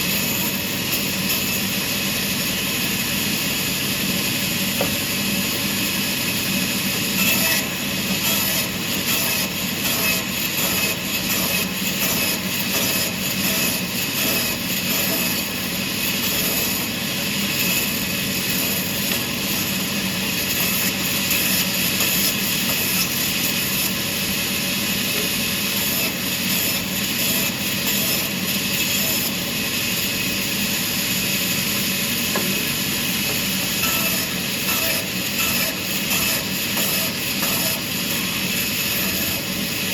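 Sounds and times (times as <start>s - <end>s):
sawmill machinery hum and whine: 0.0s - 39.9s.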